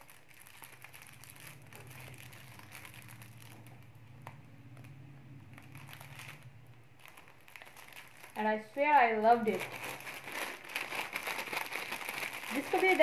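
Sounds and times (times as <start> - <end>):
low steady hum: 0.0 - 13.0
plastic wrapping rustling: 0.0 - 13.0.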